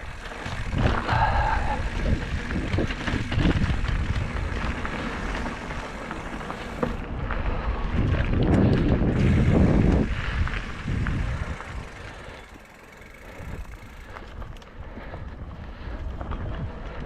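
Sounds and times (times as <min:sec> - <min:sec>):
bike clicks and rattles: 0:00.0 - 0:17.0
bike tyres rumbling on dirt: 0:00.0 - 0:17.0
wind: 0:00.0 - 0:17.0.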